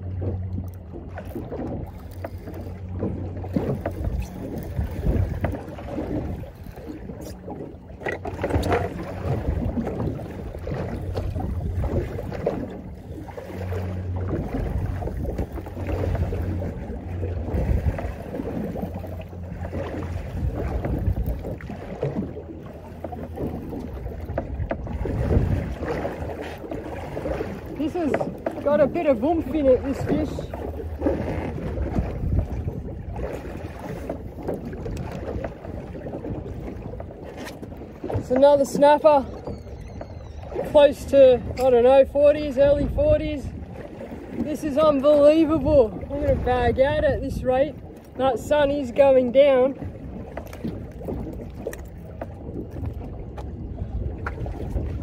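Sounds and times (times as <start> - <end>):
water slapping boat hull: 0.0 - 55.0
wind buffeting microphone: 0.0 - 55.0.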